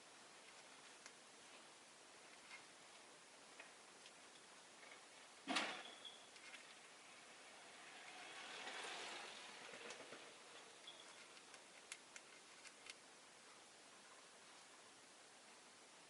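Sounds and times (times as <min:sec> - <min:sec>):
faint rush of noise: 0:00.0 - 0:05.4, 0:06.4 - 0:16.0.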